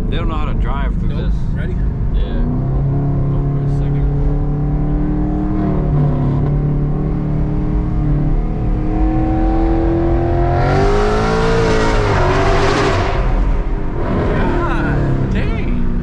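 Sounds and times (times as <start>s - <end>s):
car engine and exhaust revving: 0.0s - 16.0s.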